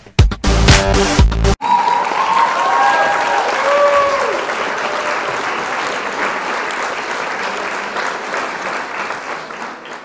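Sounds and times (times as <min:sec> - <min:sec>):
crowd applauding: 0:01.6 - 0:10.0.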